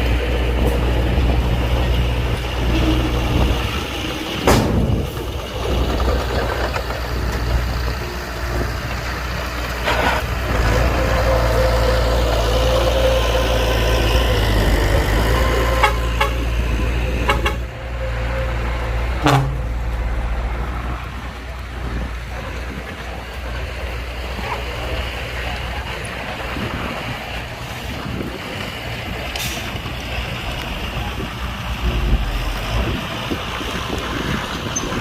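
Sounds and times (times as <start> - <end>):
diesel machinery rumbling: 0.0 - 35.0.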